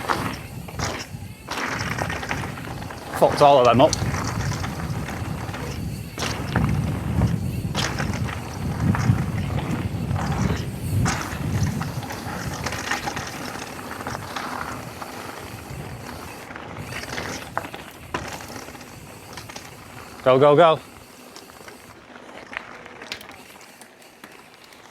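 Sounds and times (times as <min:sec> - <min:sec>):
bike knocks over jumps: 0:00.0 - 0:20.2
tyre rumble on dirt: 0:00.0 - 0:23.5
bike freehub ratchet buzzing: 0:00.0 - 0:24.8.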